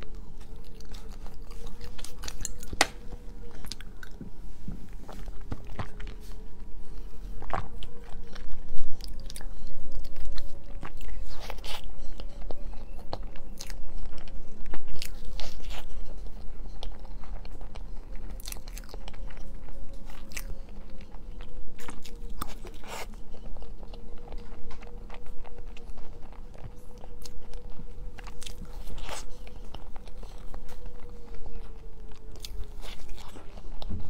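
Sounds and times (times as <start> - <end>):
biting and wet chewing: 0.0 - 34.0.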